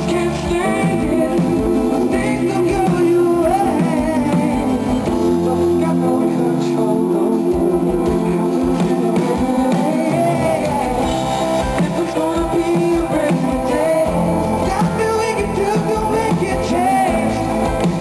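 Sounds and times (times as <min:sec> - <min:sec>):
man singing: 0:00.0 - 0:18.0
pop band playing guitars: 0:00.0 - 0:18.0.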